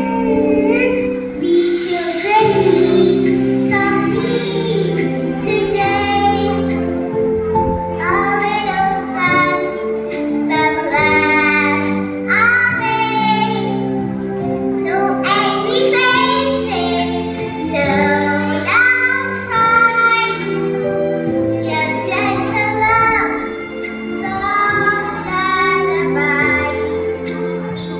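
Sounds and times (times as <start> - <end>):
child singing: 0.0 - 27.9
instrumental backing chords: 0.0 - 27.9.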